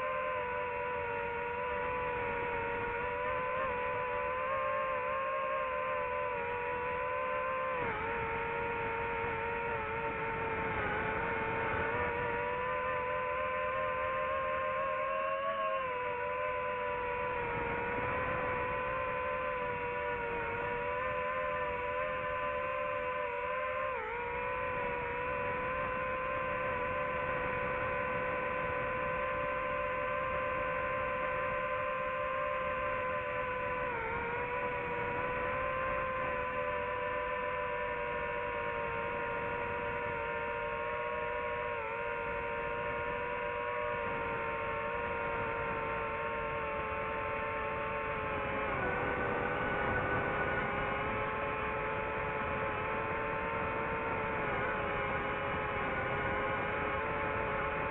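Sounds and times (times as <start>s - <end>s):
drone propellers whining: 0.0s - 57.9s.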